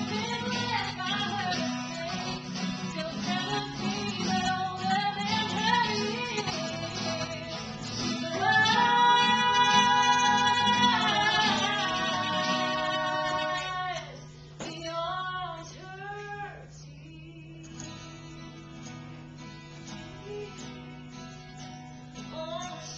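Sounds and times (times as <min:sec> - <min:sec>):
woman singing: 0:00.0 - 0:18.2, 0:20.2 - 0:21.0, 0:22.2 - 0:22.9
acoustic guitar: 0:00.0 - 0:22.9.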